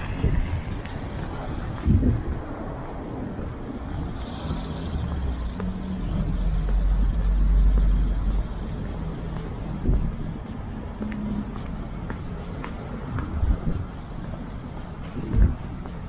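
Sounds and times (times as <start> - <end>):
vehicle engine rumble passing: 0.0 - 15.8.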